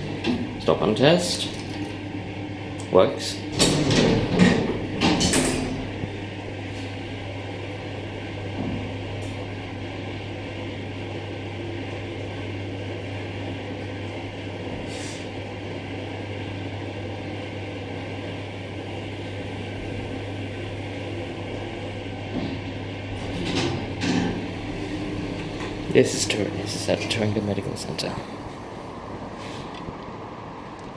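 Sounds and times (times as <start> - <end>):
elevator hum: 0.0 - 30.9.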